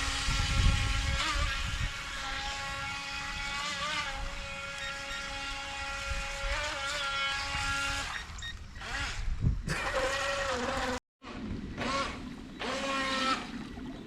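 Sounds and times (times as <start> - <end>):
electric motor whining: 0.0 - 11.0, 11.8 - 13.5.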